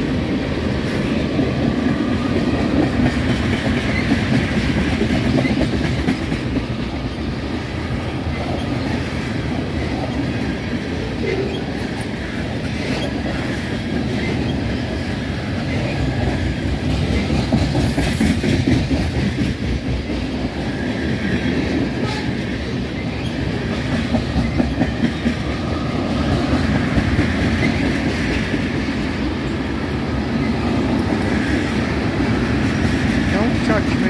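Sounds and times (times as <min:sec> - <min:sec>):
heavy train rumble: 0:00.0 - 0:34.0.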